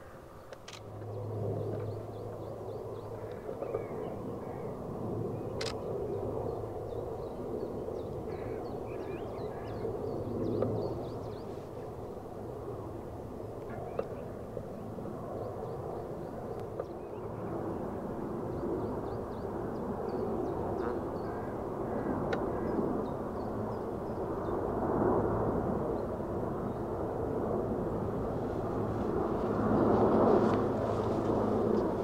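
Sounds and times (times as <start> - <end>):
propeller aircraft drone: 0.0 - 32.0.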